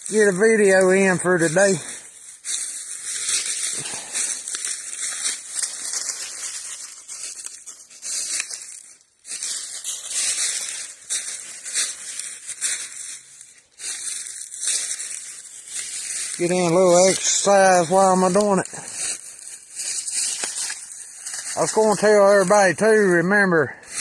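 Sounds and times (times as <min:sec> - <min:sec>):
footsteps crunching dry leaves: 0:00.0 - 0:24.0.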